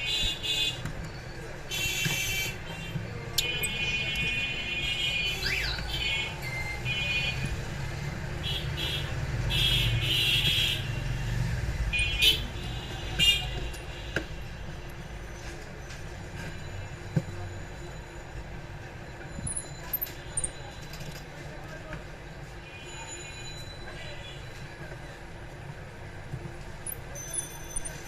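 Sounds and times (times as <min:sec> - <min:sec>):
traffic rumble: 0:00.0 - 0:22.6.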